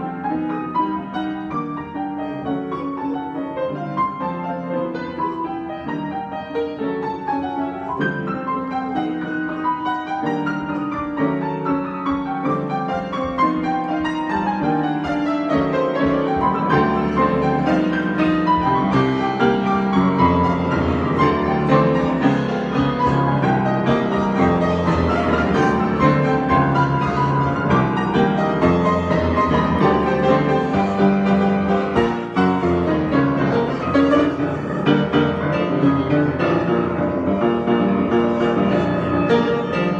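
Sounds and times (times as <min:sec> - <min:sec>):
piano improvisation: 0:00.0 - 0:39.9.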